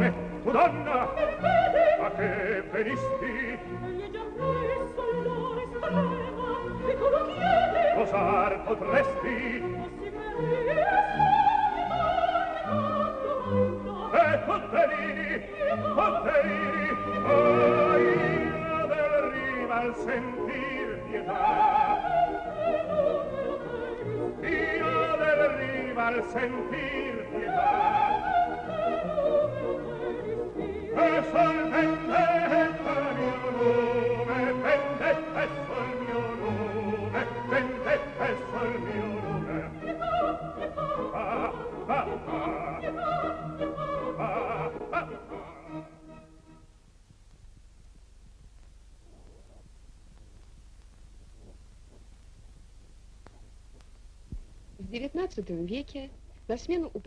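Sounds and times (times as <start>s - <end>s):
opera singer: 0.0s - 46.5s
musical accompaniment: 0.0s - 46.9s.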